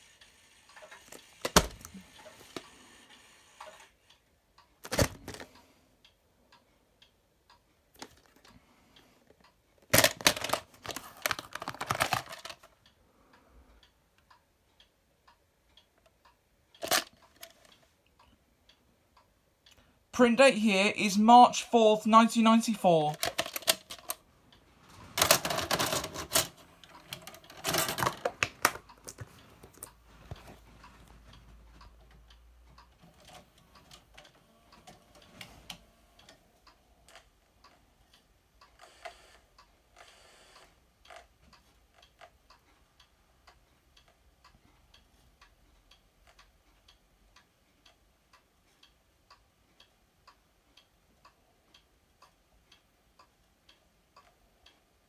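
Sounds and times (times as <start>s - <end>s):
faint regular ticking: 5.4s - 9.9s, 12.6s - 24.9s, 26.3s - 55.0s.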